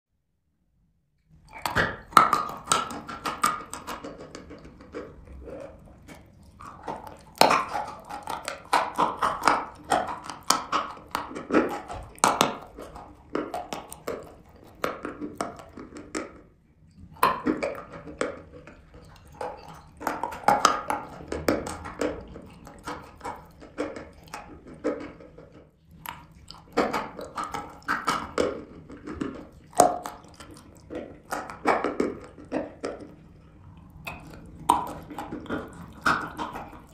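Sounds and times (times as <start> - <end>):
crunching and chewing chalk: 1.2 - 36.9.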